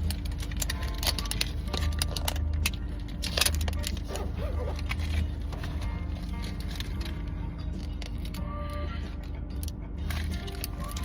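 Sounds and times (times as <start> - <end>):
car rumble: 0.0 - 11.0.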